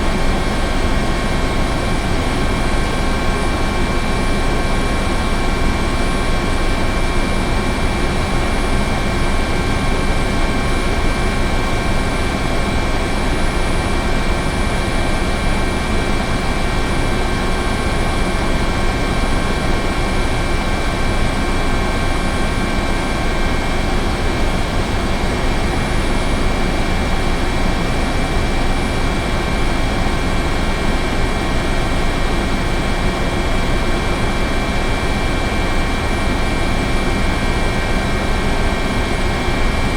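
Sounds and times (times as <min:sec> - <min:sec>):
helicopter rotor and engine: 0:00.0 - 0:39.9
high turbine whine: 0:00.0 - 0:39.9.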